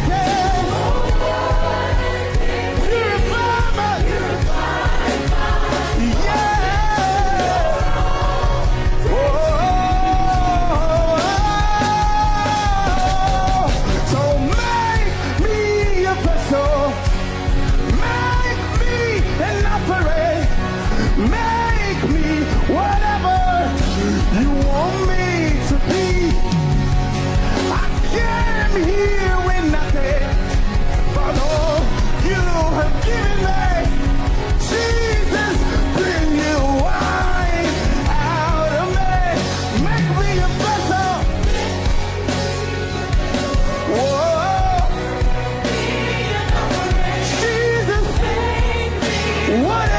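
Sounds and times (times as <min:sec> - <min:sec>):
band playing gospel music: 0:00.0 - 0:49.9.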